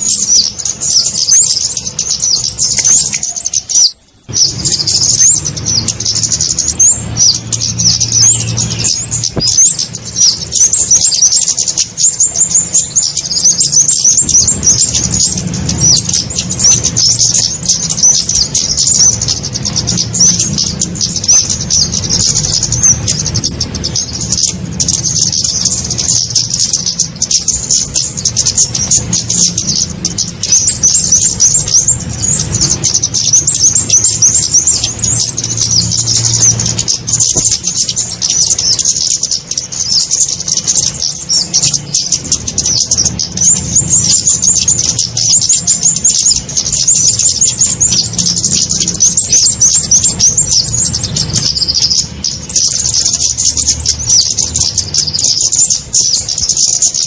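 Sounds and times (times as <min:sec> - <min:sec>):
birds chirping rapidly: 0:00.0 - 0:57.0.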